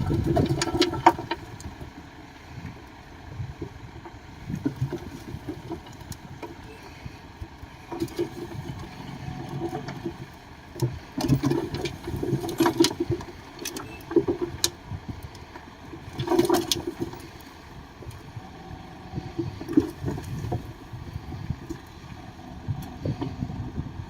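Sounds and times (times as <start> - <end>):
bulldozer engine under load: 0.0 - 24.0.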